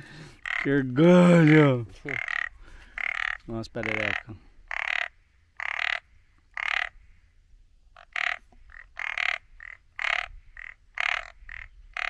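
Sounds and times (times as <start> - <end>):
tree frog rasping call: 0.0 - 7.3, 7.9 - 12.0.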